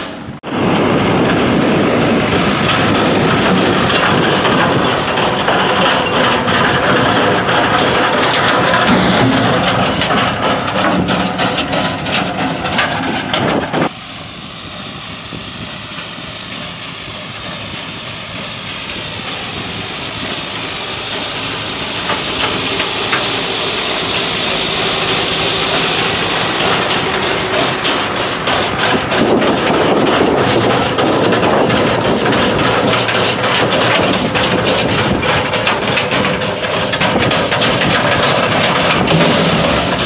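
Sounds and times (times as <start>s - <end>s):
stone-picking machine clattering: 0.0s - 13.9s, 15.6s - 40.0s
tractor diesel engine running: 0.0s - 40.0s.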